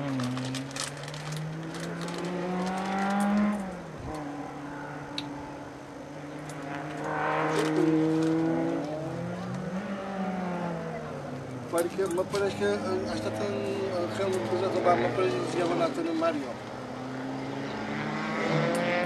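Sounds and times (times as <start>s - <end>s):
race car engine accelerating: 0.0s - 5.2s, 6.1s - 11.7s, 12.5s - 19.0s.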